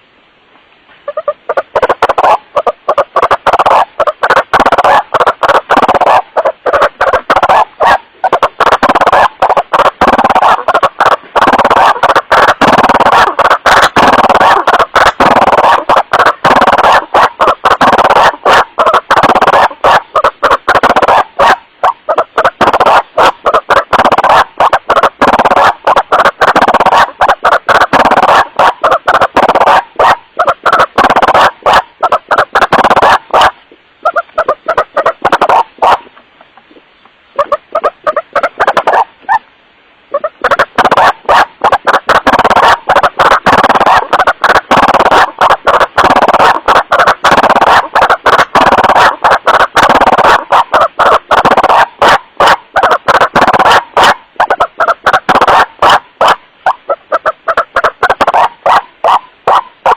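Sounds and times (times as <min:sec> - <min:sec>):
distorted harsh bird calls: 0:01.0 - 0:39.5, 0:40.1 - 0:59.9.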